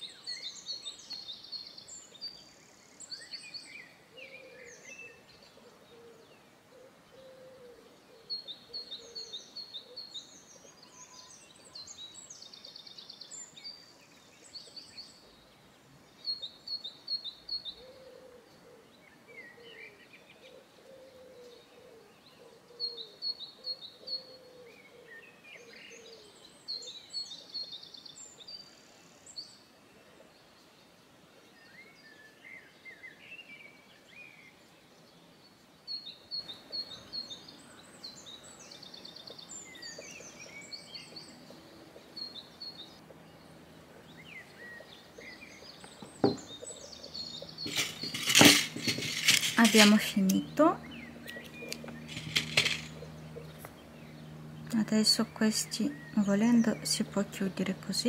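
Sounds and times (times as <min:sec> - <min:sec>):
birds chirping: 0:00.0 - 0:58.0
faint background noise: 0:00.0 - 0:58.0.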